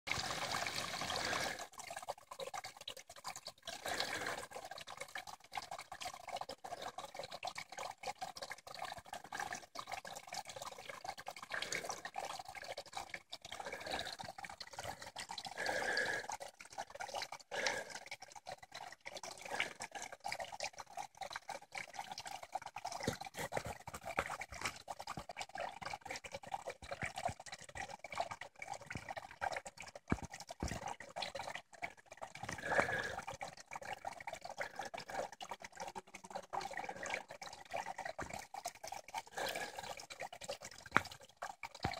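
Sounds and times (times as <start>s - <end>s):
water trickling into a pool: 0.1s - 41.9s.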